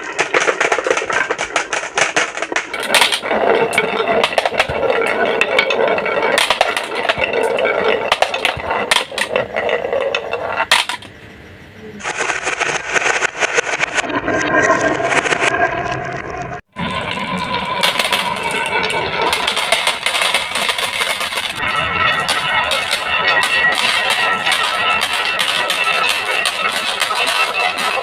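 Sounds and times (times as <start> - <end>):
marbles rolling and clattering: 0.0 - 28.0.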